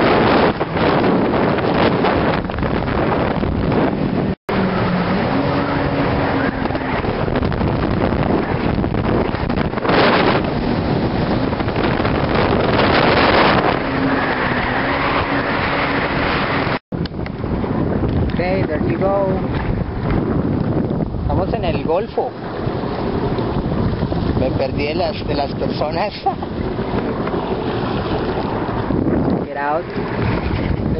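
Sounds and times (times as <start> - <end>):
jet ski engine hum: 0.0 - 30.9
water rushing: 0.0 - 30.9
wind buffeting on microphone: 0.0 - 30.9.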